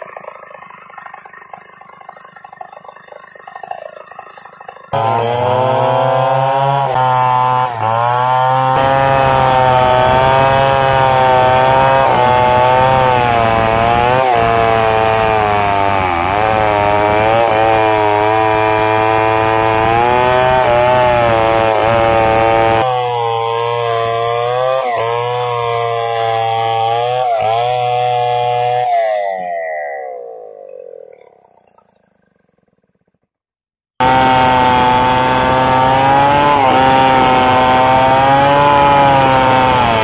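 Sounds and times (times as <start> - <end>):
chainsaw cutting log: 0.0 - 40.0.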